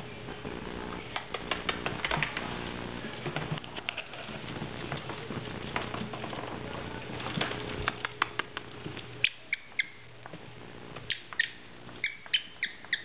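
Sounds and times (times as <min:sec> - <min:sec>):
faint steady hum: 0:00.0 - 0:13.0
puppies' paws scrabbling: 0:00.2 - 0:13.0.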